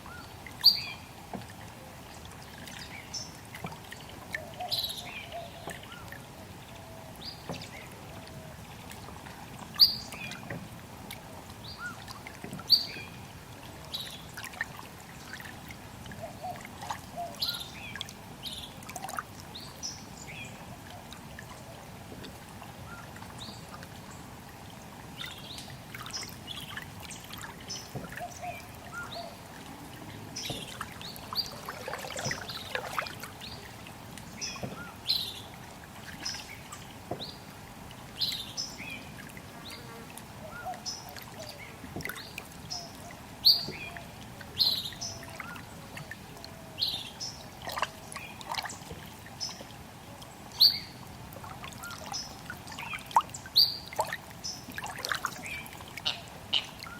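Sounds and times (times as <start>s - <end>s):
trickle of running water: 0.0s - 56.9s.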